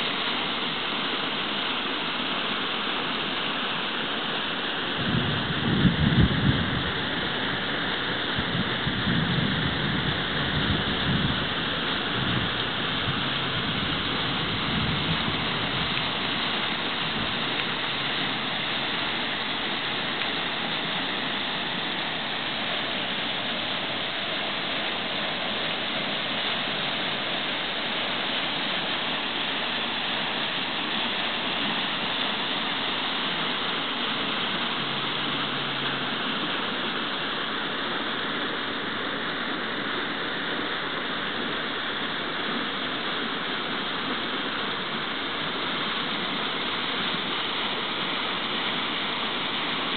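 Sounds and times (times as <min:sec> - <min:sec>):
river water rushing over dam: 0:00.0 - 0:49.9.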